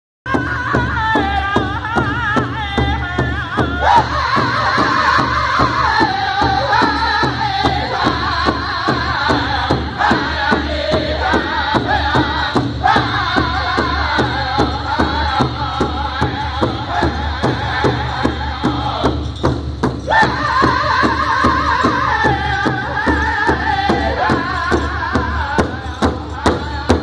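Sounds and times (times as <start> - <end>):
large hide drum beating: 0.3 - 27.0
men singing in high wavering voices: 0.3 - 27.0.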